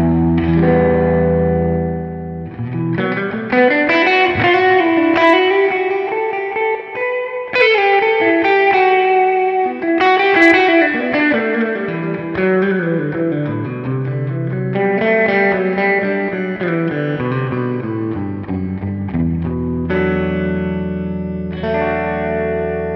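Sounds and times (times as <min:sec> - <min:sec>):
distorted electric guitar lead notes: 0:00.0 - 0:22.9.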